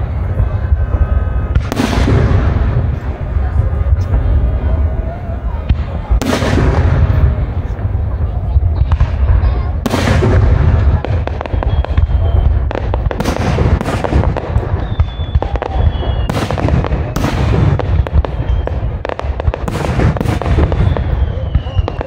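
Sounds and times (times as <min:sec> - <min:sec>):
fireworks bangs and cracks: 0:00.0 - 0:22.0
low booming: 0:00.0 - 0:22.0.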